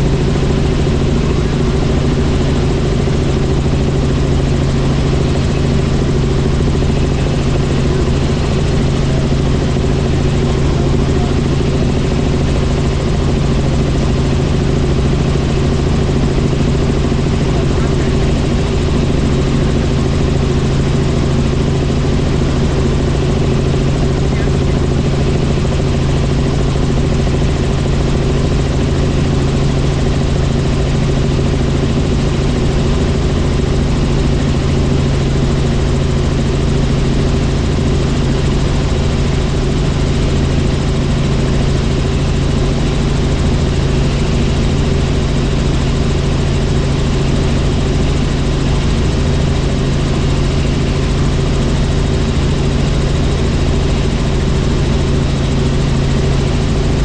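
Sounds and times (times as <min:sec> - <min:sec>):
helicopter in flight: 0:00.0 - 0:57.0.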